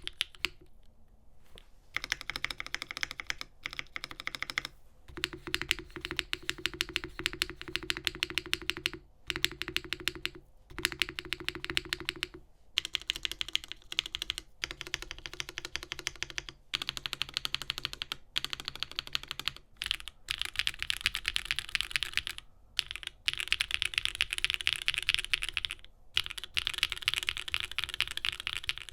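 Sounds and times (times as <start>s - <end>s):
typing on mechanical keyboard: 0.0s - 0.6s, 2.0s - 28.9s.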